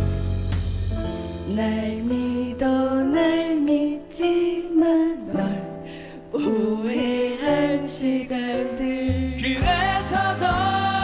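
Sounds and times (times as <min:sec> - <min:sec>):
pop song sung live: 0:01.5 - 0:11.0.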